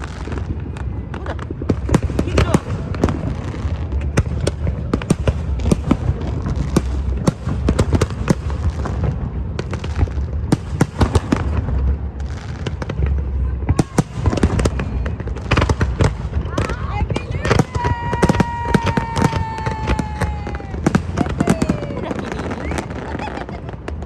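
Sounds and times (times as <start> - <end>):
fireworks bangs and crackles: 0.0 - 24.0
low rumble: 0.0 - 24.0.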